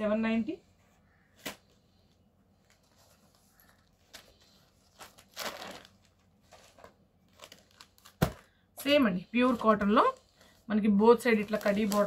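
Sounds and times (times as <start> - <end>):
cloth rustling: 0.7 - 12.0.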